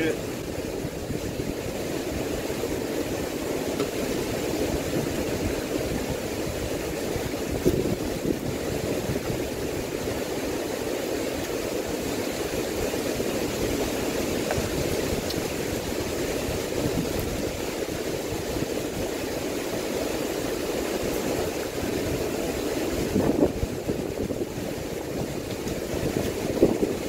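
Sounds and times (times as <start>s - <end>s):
strong wind rushing: 0.0s - 19.8s, 20.4s - 27.0s
rain: 0.0s - 27.0s
wind buffeting microphone: 0.0s - 27.0s.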